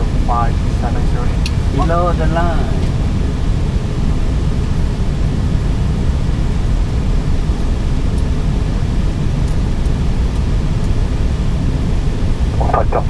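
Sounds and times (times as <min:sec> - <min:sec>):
airliner cockpit rumble and hiss: 0:00.0 - 0:13.0.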